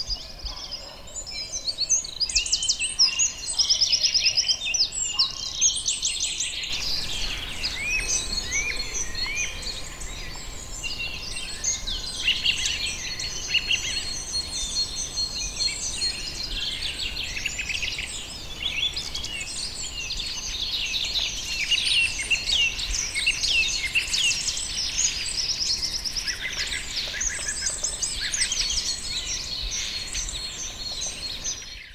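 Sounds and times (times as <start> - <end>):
songbirds chirping and singing: 0.0 - 31.9.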